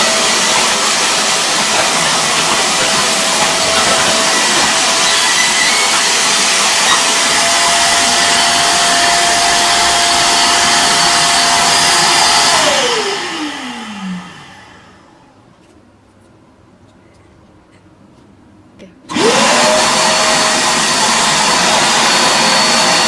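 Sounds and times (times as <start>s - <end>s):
vacuum motor spinning down: 0.0s - 15.0s, 19.1s - 23.0s
vacuum cleaner whining: 0.0s - 15.4s, 19.1s - 23.0s.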